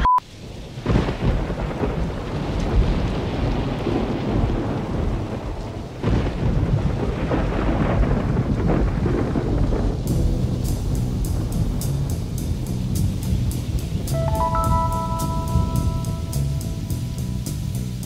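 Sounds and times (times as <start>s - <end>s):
steady rain: 0.2s - 18.0s
thunder rolling: 0.3s - 17.8s.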